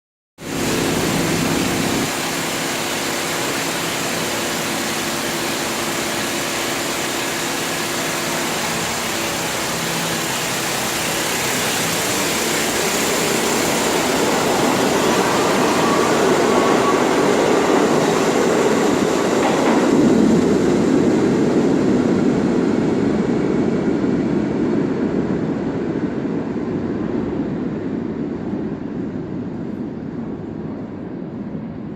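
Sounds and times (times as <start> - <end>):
steady droning hum: 0.4 - 31.9
subway train running past: 0.4 - 31.9.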